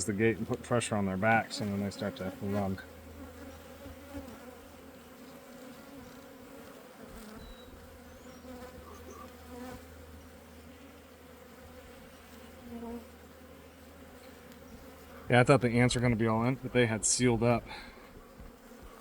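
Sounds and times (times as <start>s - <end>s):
bees buzzing around hive: 0.0s - 19.0s.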